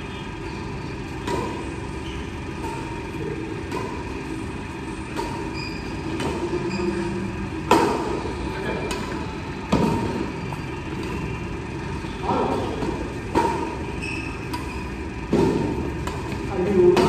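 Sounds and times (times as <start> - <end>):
steady low hum: 0.0 - 17.0
rackets striking shuttlecock: 0.9 - 6.8, 7.5 - 11.3, 12.3 - 17.0.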